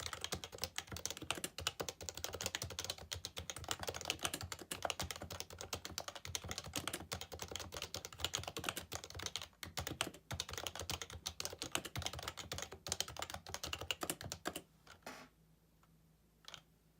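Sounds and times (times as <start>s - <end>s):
fast keyboard typing: 0.0s - 14.7s.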